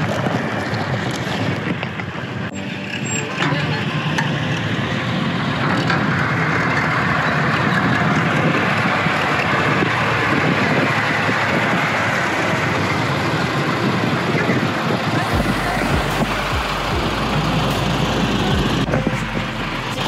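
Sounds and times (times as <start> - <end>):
motor vehicle running: 0.0 - 20.0.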